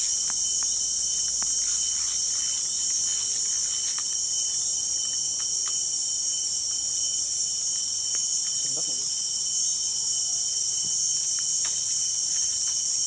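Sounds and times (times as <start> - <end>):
insects chorus hissing: 0.0 - 13.0.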